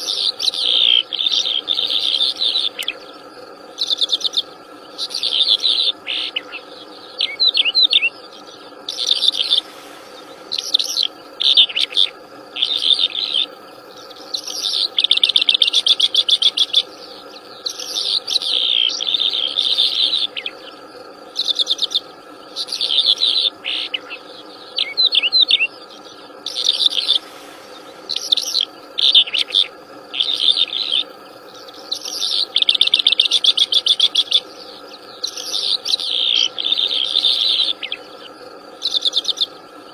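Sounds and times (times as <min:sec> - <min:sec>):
songbird singing with trills: 0:00.0 - 0:39.9
steady low hum: 0:00.0 - 0:39.9.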